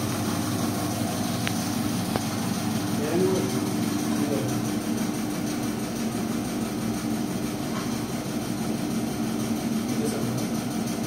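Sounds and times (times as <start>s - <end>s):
machine motor hum and whirring: 0.0s - 11.0s.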